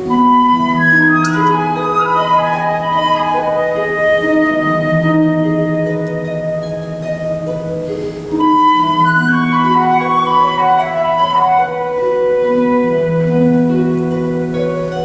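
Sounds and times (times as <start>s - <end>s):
flute melody: 0.0s - 15.0s
harp accompaniment: 0.0s - 15.0s.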